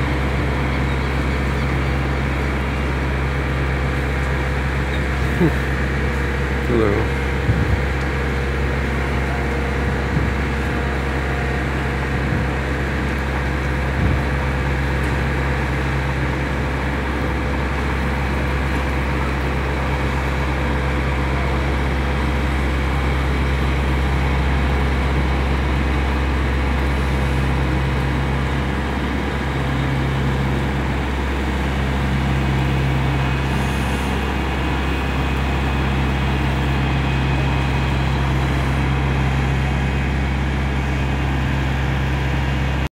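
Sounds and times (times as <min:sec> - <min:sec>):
diesel engine low drone: 0:00.0 - 0:42.9.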